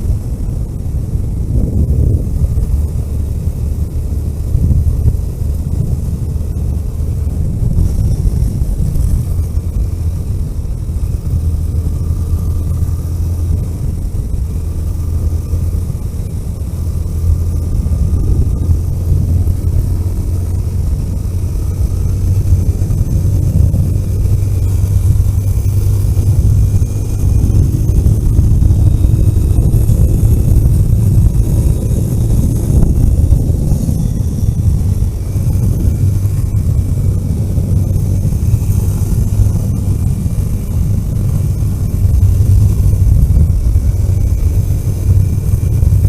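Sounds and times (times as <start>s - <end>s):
road rumble: 0.0s - 46.0s
vehicle engine drone: 0.0s - 46.0s.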